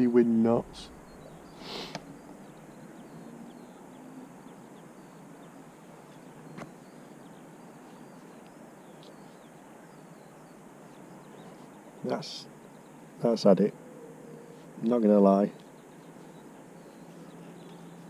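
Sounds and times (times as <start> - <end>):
small birds chirping: 0.0 - 18.0
steady background hiss: 0.0 - 18.0.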